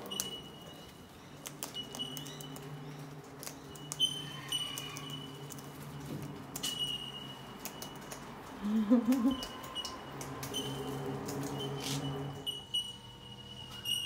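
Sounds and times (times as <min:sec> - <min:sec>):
cockatoos clicking and scrabbling: 0:00.0 - 0:12.4.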